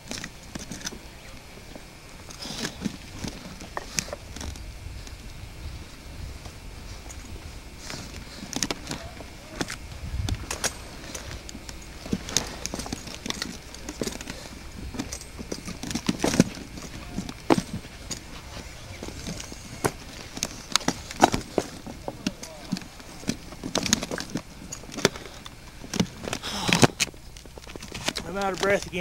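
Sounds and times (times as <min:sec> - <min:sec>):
footsteps scrambling over rocks: 0:00.0 - 0:29.0.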